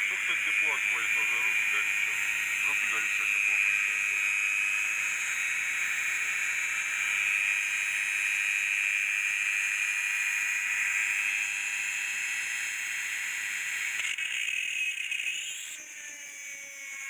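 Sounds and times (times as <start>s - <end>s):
small electric tool whirring: 0.0s - 17.0s.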